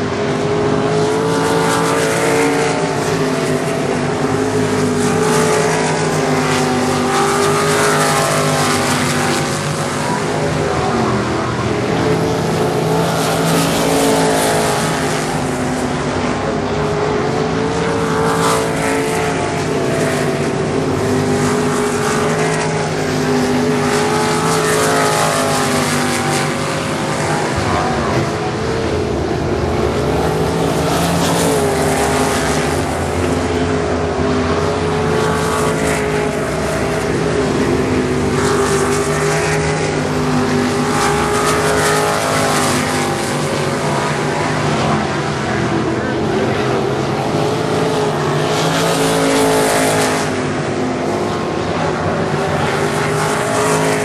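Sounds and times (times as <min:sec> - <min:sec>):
race car engines racing: 0:00.0 - 0:54.0.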